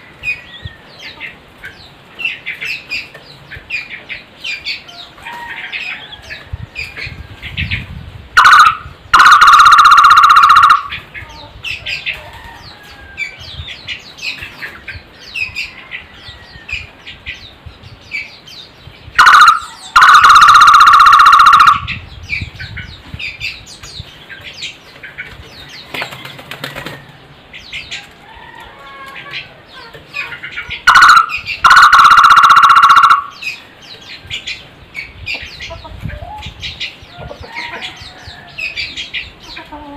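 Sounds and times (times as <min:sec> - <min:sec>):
faint chirps of small birds: 0:00.0 - 0:08.1, 0:10.8 - 0:20.1, 0:21.8 - 0:31.9, 0:33.2 - 0:39.9.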